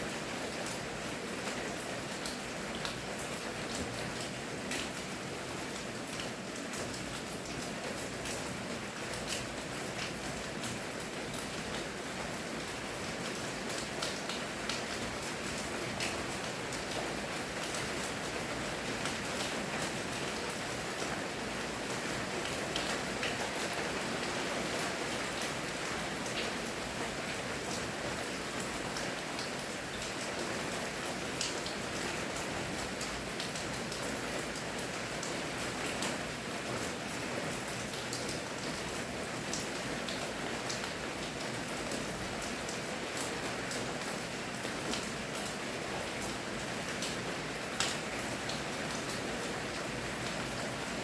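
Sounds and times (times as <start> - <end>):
steady rainfall: 0.0 - 51.0.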